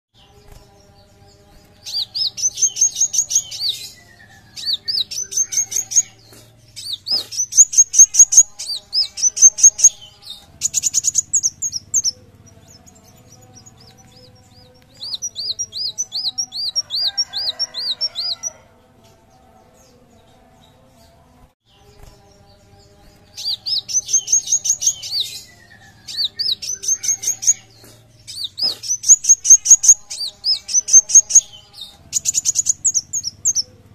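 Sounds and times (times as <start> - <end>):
sunbird singing high chirps: 0.2 - 18.6, 21.7 - 33.9.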